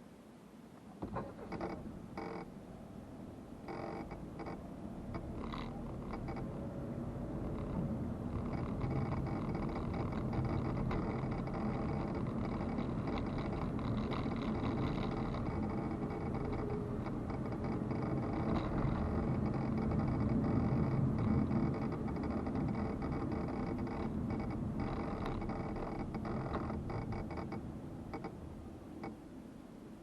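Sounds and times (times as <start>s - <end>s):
car engine and road noise: 1.0s - 29.4s.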